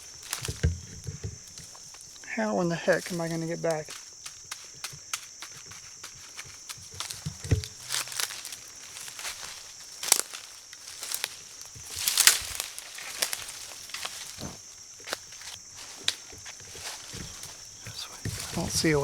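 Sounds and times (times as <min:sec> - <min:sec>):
brush rustling: 0:00.0 - 0:19.0
footsteps through undergrowth: 0:00.0 - 0:19.0
twigs snapping: 0:00.0 - 0:19.0.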